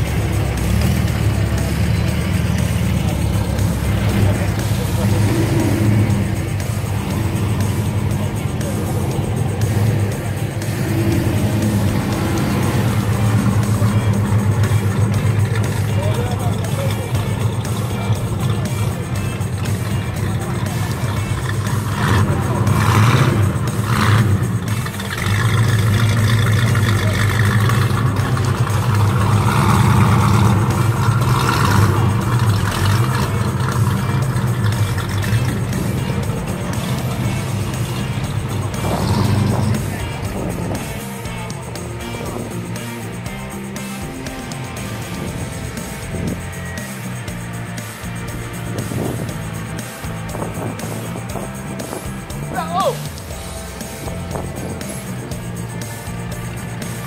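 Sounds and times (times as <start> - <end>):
car engine low rumble: 0.0 - 57.0
music with bass and drums: 0.0 - 57.0.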